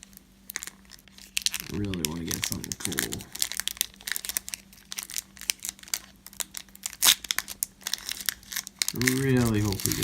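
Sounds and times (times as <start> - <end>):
card pack wrapper tearing: 0.5 - 10.0.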